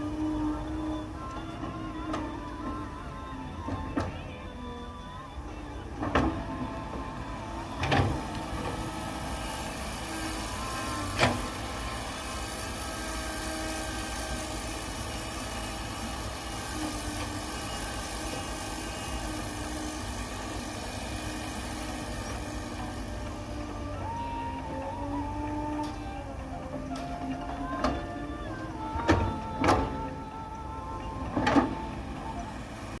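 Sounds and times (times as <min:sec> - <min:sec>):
heavy machinery engine running: 0:00.0 - 0:33.0.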